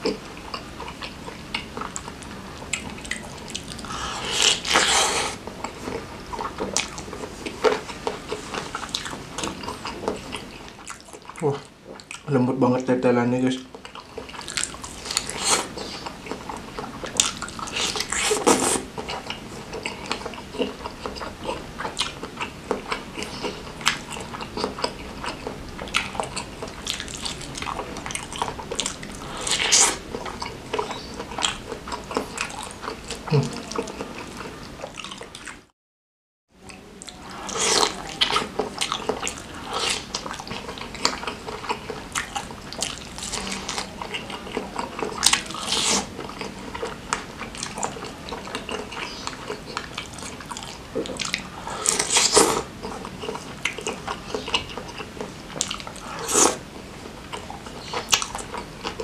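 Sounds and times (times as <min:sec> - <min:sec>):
wet chewing and lip smacking: 0:00.0 - 0:12.3, 0:13.6 - 0:35.7, 0:36.6 - 0:59.0.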